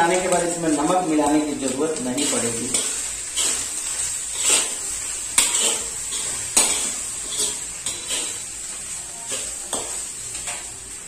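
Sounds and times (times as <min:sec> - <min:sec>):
metal spatula scraping a wok: 0:01.9 - 0:10.9.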